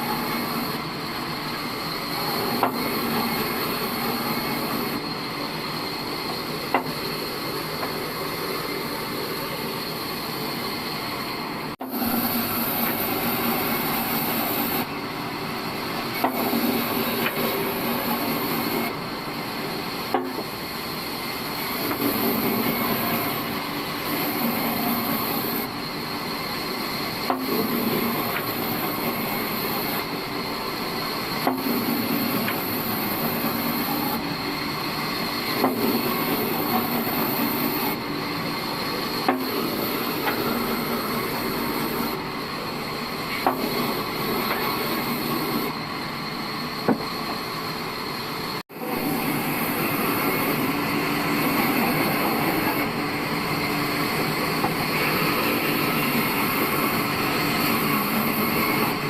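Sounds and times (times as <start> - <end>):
high whine: 0.0 - 59.0.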